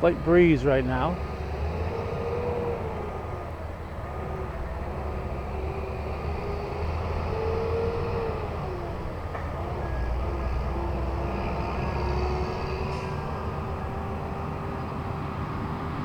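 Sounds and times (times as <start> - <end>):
diesel machinery engine rumble: 0.0 - 16.0.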